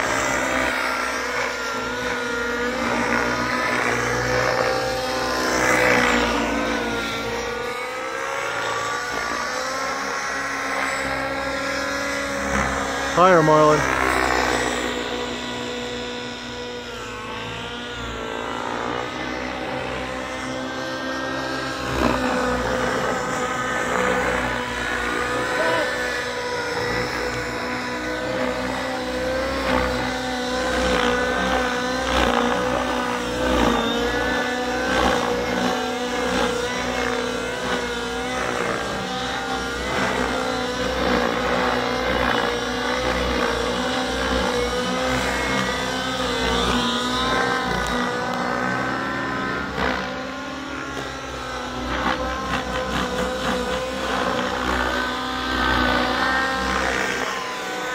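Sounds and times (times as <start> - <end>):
model helicopter engine and rotor whine: 0.0 - 57.9.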